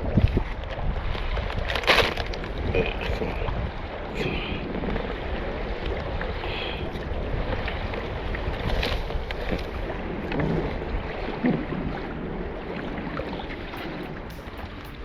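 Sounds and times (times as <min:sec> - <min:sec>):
water lapping against hull: 0:00.0 - 0:15.0
wind buffeting microphone: 0:00.0 - 0:15.0.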